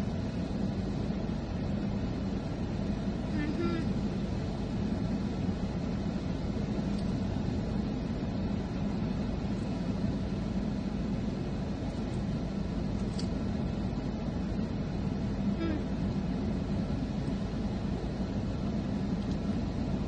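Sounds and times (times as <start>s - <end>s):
car engine hum inside cabin: 0.0s - 20.0s.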